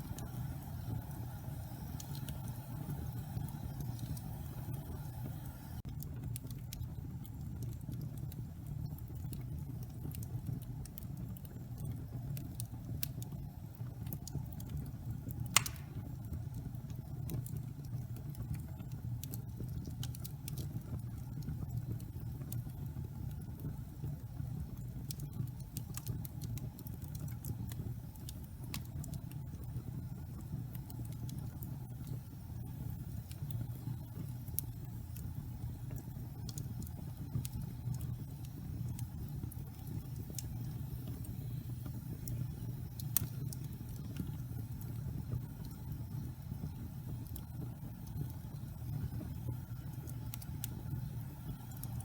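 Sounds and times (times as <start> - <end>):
fire crackling and popping: 0.0 - 52.0
log fire rumbling: 0.0 - 52.0.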